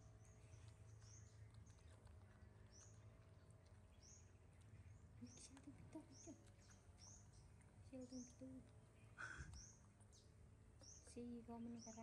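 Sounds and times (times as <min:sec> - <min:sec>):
low steady hum: 0:00.0 - 0:12.0
songbird chirping: 0:00.0 - 0:12.0.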